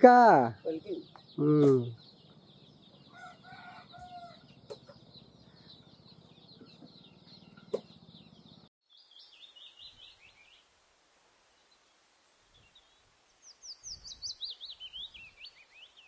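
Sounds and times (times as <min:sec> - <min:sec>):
small birds chirping: 0:00.0 - 0:10.7, 0:11.4 - 0:16.0.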